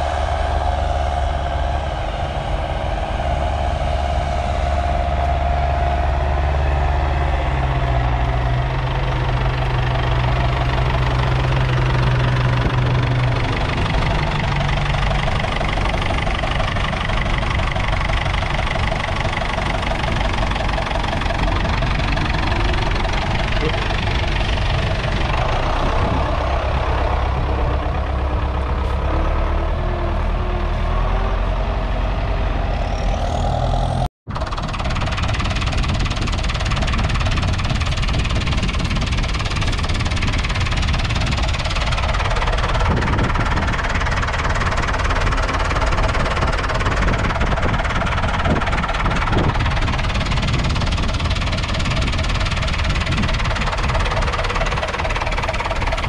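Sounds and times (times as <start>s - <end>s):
diesel tractor engine idling: 0.0s - 56.0s.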